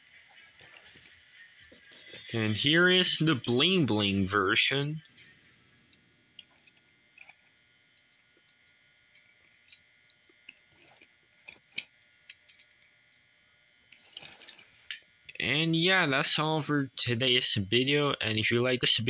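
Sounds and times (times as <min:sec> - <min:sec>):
low steady hiss: 0:00.0 - 0:19.0.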